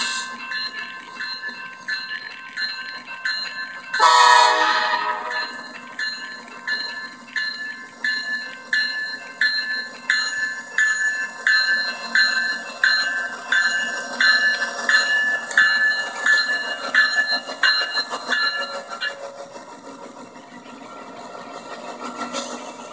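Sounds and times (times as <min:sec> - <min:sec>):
locomotive bell ringing: 0:00.0 - 0:19.7
train running noise: 0:00.0 - 0:22.9.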